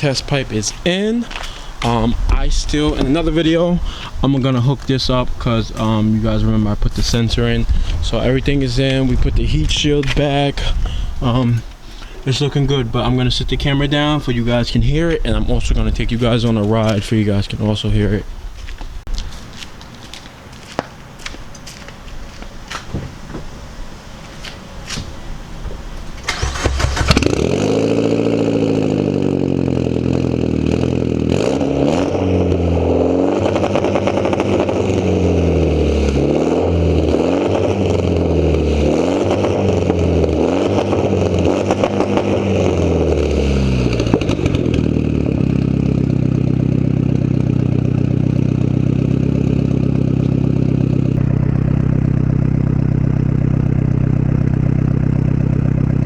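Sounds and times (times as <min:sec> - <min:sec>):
car engine starting and revving: 0:00.0 - 0:18.3, 0:22.6 - 0:56.0
car engine idling: 0:00.0 - 0:19.1, 0:20.4 - 0:31.4, 0:32.1 - 0:56.0.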